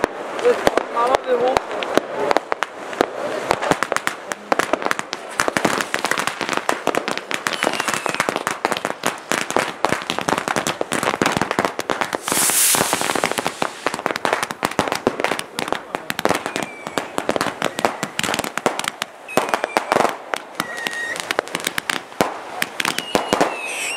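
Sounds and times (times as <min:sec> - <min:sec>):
fireworks crackling: 0:00.0 - 0:23.9.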